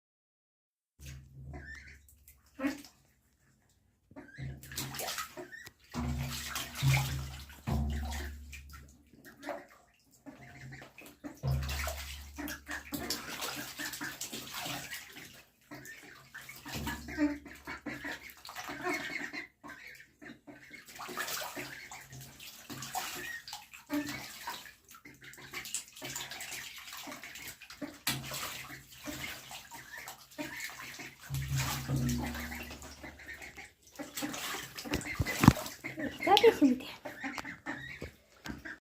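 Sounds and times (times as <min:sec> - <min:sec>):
ducks splashing in water: 0:01.0 - 0:38.8.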